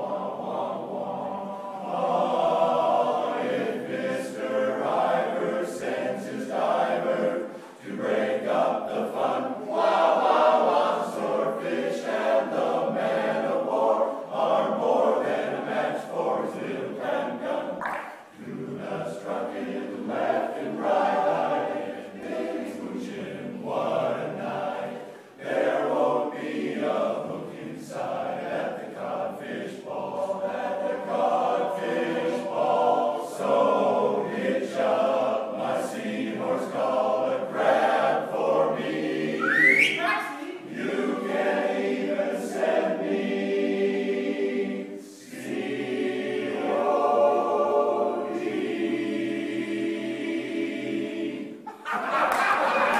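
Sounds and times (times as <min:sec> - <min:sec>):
men's chorus singing a cappella: 0:00.0 - 0:52.9.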